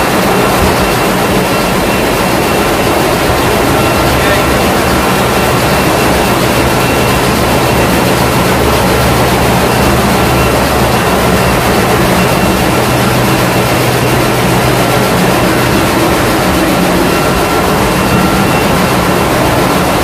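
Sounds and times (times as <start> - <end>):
engine room machinery running: 0.0 - 20.0.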